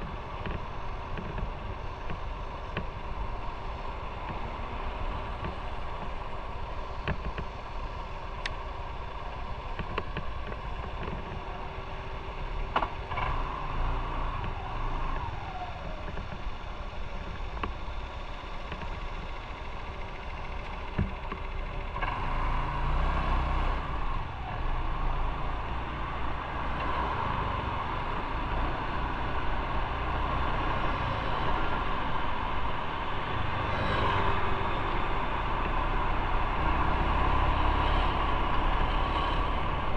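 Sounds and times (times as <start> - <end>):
motorcycle engine and road rumble: 0.0 - 39.9.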